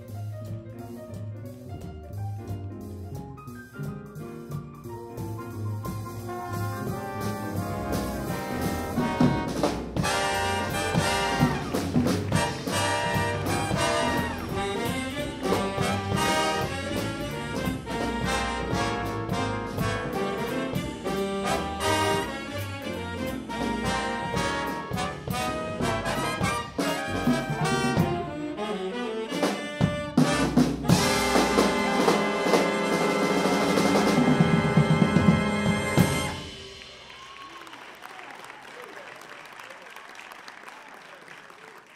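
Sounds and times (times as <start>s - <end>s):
jazz big band playing: 0.0s - 37.6s.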